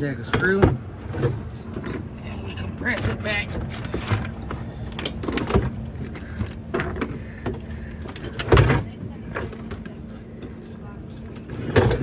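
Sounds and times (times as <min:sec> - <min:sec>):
brake parts knocking and clunking: 0:00.0 - 0:12.0
steady low hum: 0:00.0 - 0:12.0.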